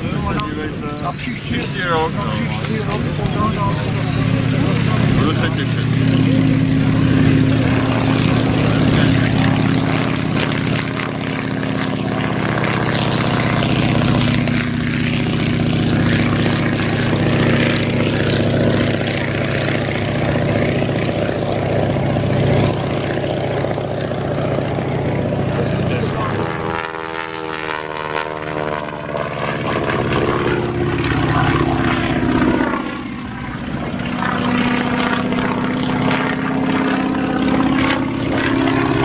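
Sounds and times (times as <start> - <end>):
biplane engine drone: 0.0 - 39.0.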